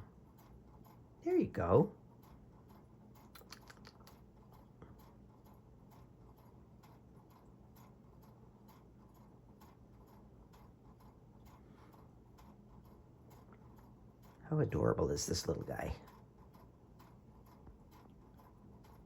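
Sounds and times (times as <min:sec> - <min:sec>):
low steady hum: 0:00.0 - 0:19.0
faint ticking clicks: 0:02.1 - 0:19.0.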